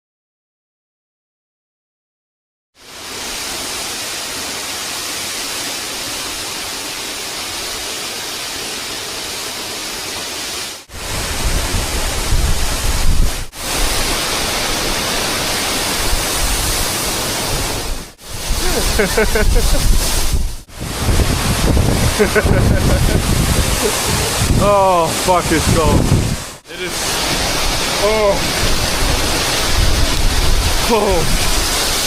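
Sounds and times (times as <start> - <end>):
waterfall rushing: 2.8 - 32.0.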